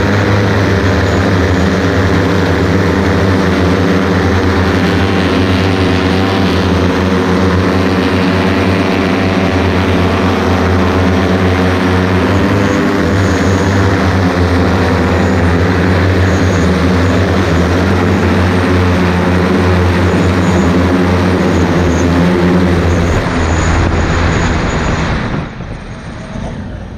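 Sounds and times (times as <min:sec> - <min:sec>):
multirotor propellers droning: 0:00.0 - 0:26.9.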